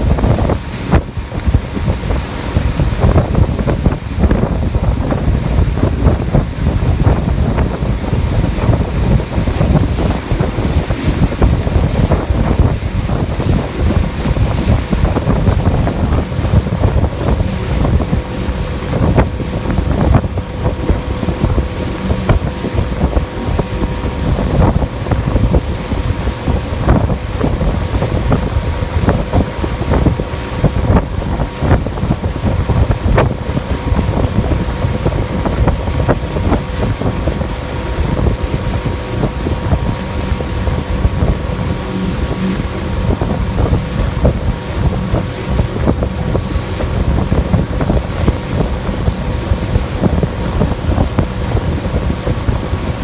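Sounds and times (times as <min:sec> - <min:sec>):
boat motor humming: 0:00.0 - 0:53.0
hull knocking on water: 0:00.0 - 0:53.0
wind buffeting microphone: 0:00.0 - 0:53.0.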